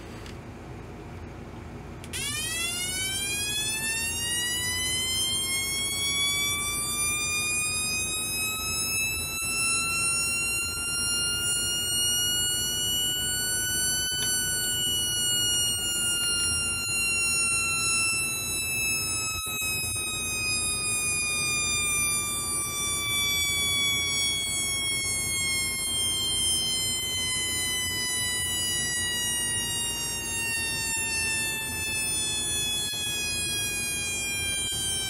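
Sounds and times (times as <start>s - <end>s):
electronic siren tone sweeping: 2.0s - 35.0s.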